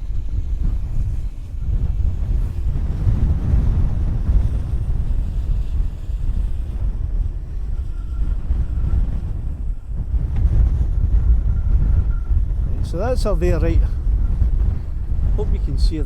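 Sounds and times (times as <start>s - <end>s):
gusting wind buffeting microphone: 0.0s - 16.0s.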